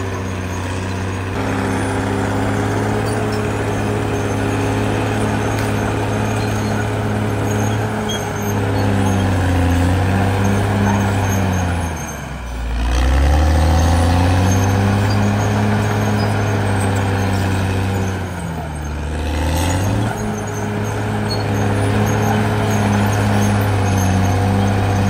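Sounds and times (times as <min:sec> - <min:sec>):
bulldozer diesel engine: 0:00.0 - 0:25.0.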